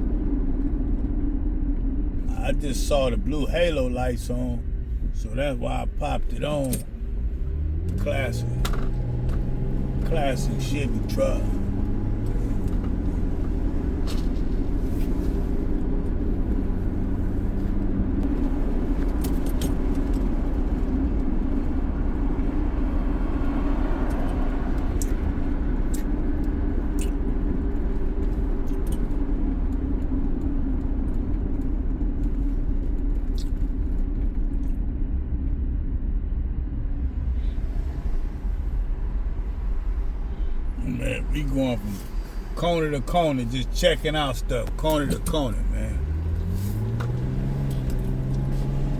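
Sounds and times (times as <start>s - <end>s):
car engine and road rumble: 0.0s - 48.9s.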